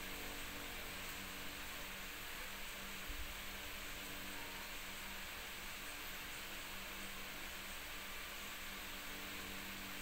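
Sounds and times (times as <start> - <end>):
faint electrical hum: 0.0 - 10.0
steady hiss: 0.0 - 10.0.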